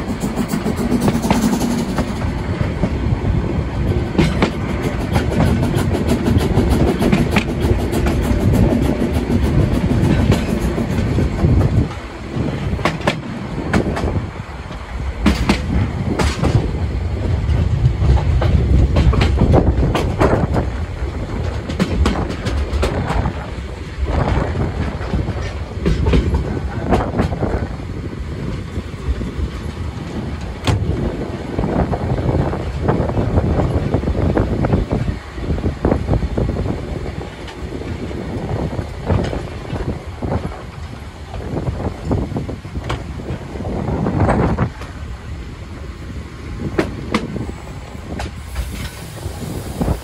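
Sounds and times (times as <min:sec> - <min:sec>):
wheels clacking over rail joints: 0:00.0 - 0:49.2
steam train rumbling: 0:00.0 - 0:50.0.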